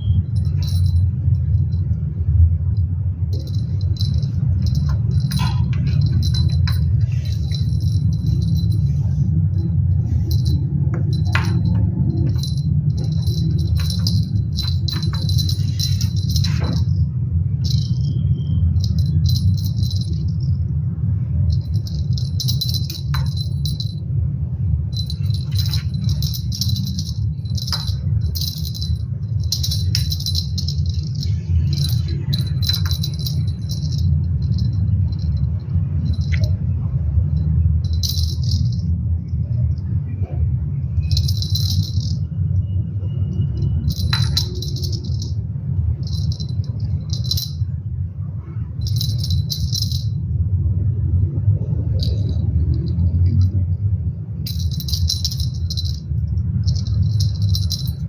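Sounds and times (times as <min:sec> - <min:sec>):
jingling rattling percussion: 0:00.0 - 0:50.4, 0:51.6 - 0:58.0
steady low hum: 0:00.0 - 0:58.0.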